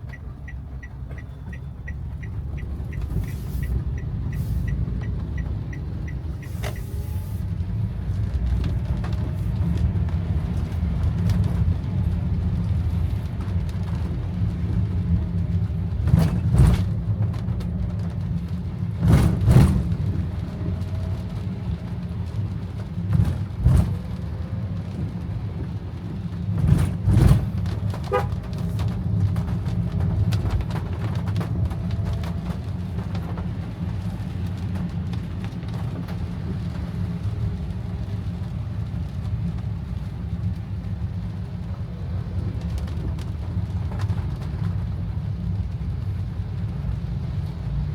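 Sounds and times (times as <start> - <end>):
car engine and wet road rumble: 0.0 - 47.9
rain wash: 0.0 - 47.9.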